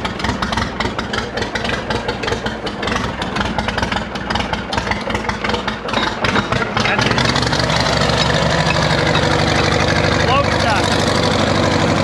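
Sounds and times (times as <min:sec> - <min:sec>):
tractor engine turning over and firing: 0:00.0 - 0:12.0.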